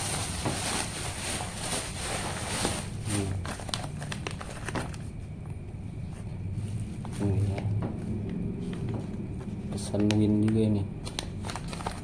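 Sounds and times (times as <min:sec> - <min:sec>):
plastic packaging rustling: 0:00.0 - 0:05.2, 0:06.1 - 0:12.0.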